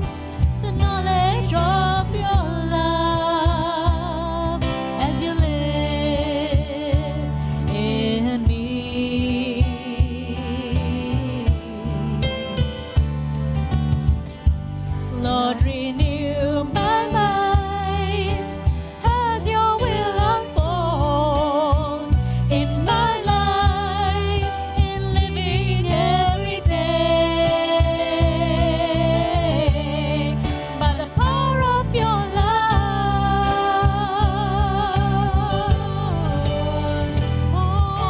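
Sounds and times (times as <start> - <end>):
worship band music: 0.0 - 38.0.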